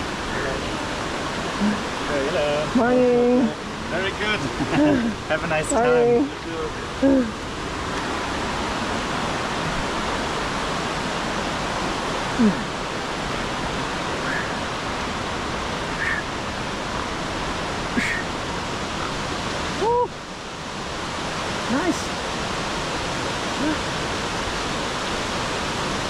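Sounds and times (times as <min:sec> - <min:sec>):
fast-flowing water rushing: 0:00.0 - 0:26.0.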